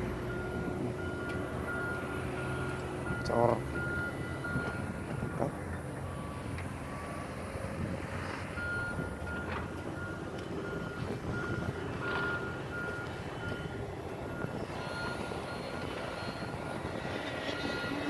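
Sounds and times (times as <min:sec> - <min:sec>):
reversing alarm beeping: 0:00.0 - 0:18.0
steady low rumble: 0:00.0 - 0:18.0.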